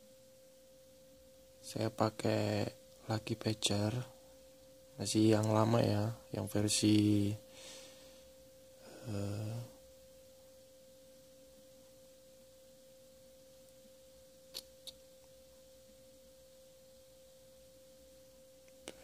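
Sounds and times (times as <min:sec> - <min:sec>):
faint steady tone: 0:00.0 - 0:19.0.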